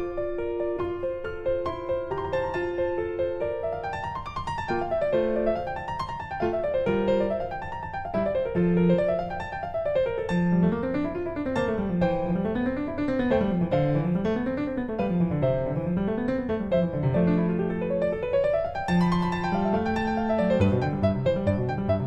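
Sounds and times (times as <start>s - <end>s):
piano arpeggios: 0.0s - 22.0s.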